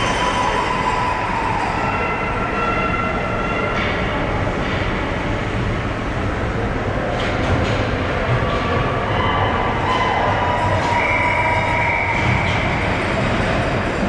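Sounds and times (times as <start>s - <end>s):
arena noise: 0.0s - 14.0s.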